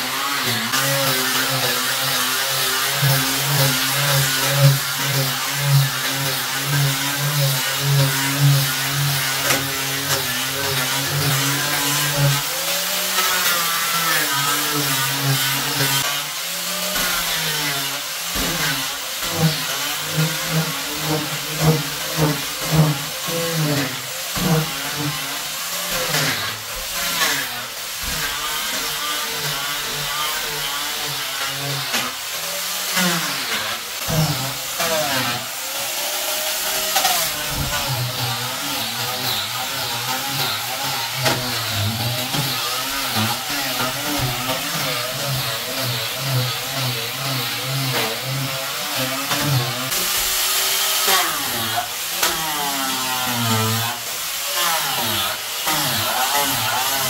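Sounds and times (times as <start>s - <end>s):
angle grinder sanding wood: 0.0s - 57.0s.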